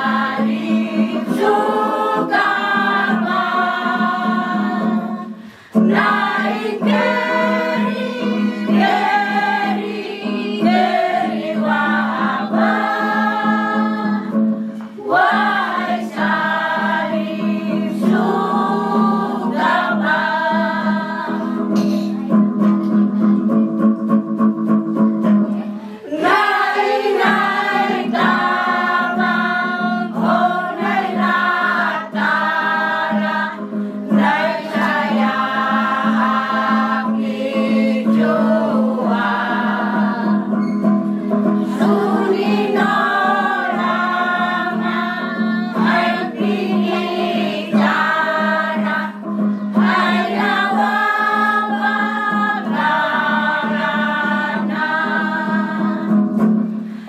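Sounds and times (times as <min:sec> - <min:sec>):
choir singing a hymn: 0:00.0 - 0:22.0, 0:26.0 - 0:56.6.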